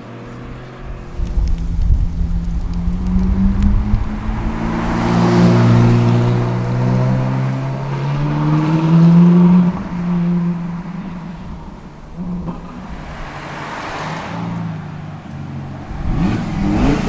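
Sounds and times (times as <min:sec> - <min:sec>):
car engine accelerating past: 0:00.1 - 0:17.0.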